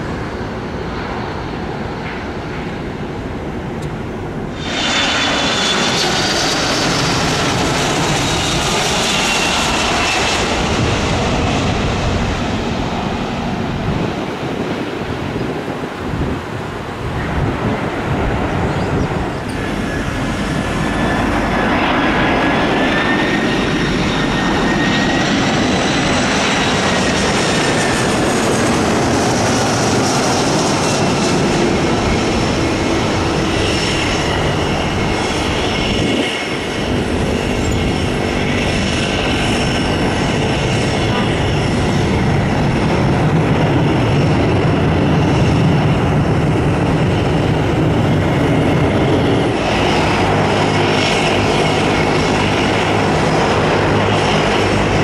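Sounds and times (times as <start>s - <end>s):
jet engines with turbine whine: 0.0s - 55.0s.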